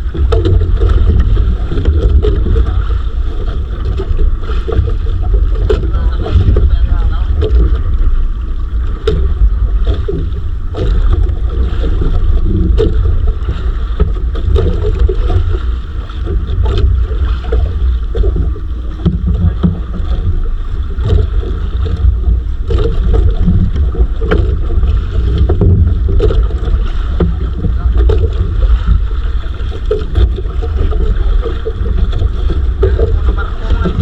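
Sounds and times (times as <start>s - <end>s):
low rumble of wind and water: 0.0s - 34.0s.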